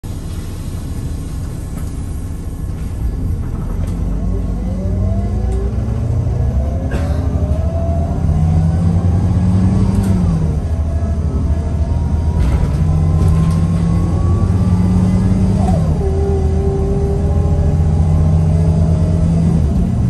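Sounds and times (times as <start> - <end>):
bus engine rumble: 0.0 - 20.0
drivetrain whine: 0.1 - 20.0.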